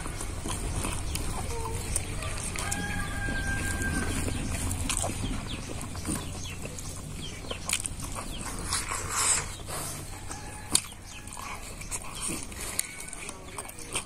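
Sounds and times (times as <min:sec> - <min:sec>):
chewing and lip smacks: 0:00.0 - 0:14.0.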